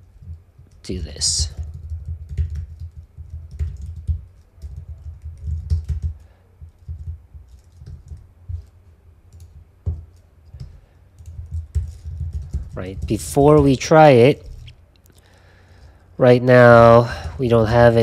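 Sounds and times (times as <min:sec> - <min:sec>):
computer keyboard typing: 0:00.0 - 0:14.8.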